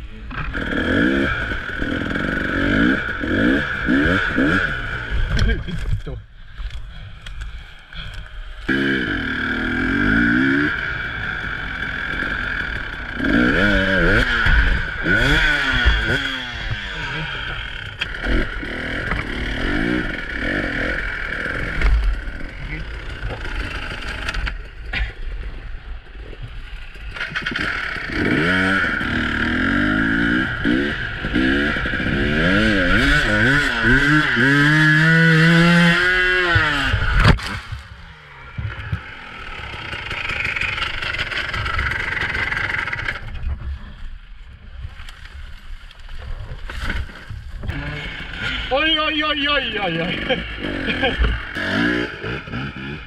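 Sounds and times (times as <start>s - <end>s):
dirt bike engine revving: 0.0s - 5.8s, 7.6s - 43.4s, 47.6s - 53.0s.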